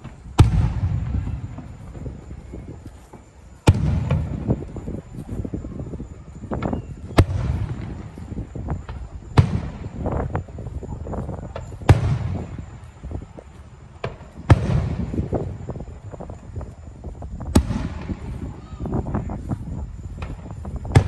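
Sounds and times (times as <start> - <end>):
fireworks bangs with echo: 0.0 - 5.0, 6.5 - 16.3, 17.5 - 19.5, 20.1 - 21.0
fireworks pops and crackles: 0.0 - 21.0.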